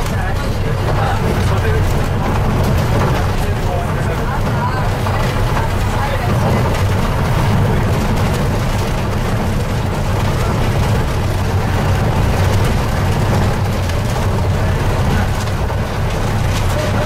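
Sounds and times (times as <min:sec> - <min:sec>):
vehicle on dirt road rumbling: 0:00.0 - 0:17.0.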